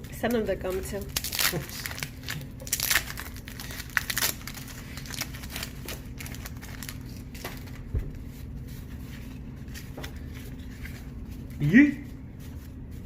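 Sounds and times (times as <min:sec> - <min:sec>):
wax wrappers crinkling: 0:00.0 - 0:11.6
cards being handled: 0:00.7 - 0:11.6.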